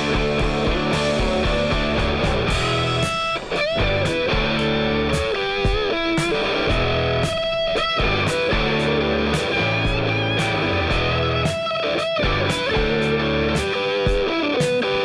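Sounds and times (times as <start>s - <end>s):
electric guitar lead: 0.0s - 15.0s
steady drum beat: 0.0s - 15.0s.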